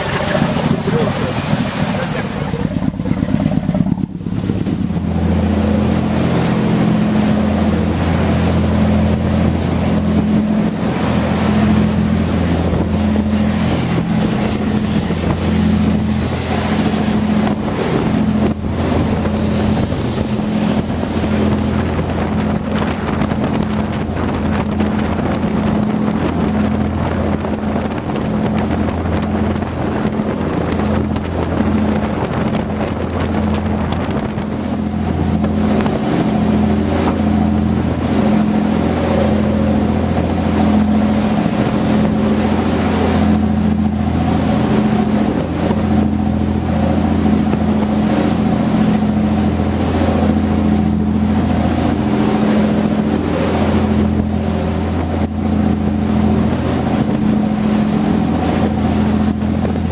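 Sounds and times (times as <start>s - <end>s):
boat engine running: 0.0s - 59.9s
wind buffeting microphone: 0.0s - 59.9s.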